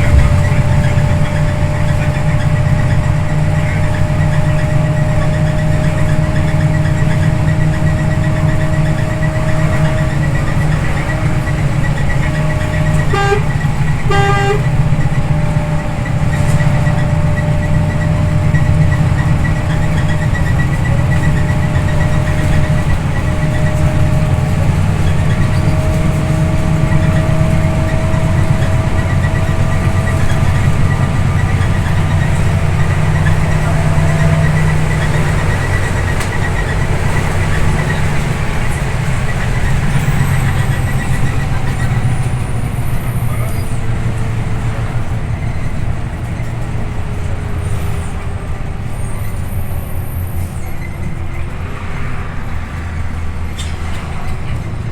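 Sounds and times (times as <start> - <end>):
rising engine whine: 0.0 - 53.5
bus diesel engine drone: 0.0 - 54.9.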